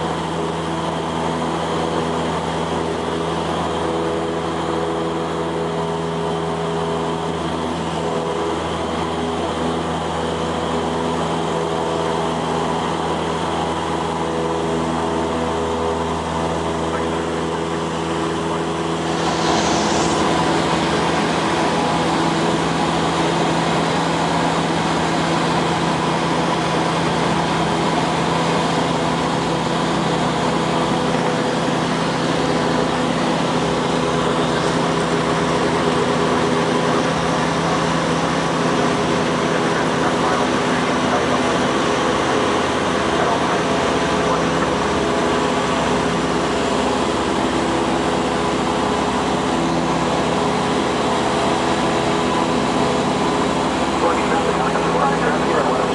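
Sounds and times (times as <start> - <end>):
light aircraft engine drone in cabin: 0.0 - 55.9.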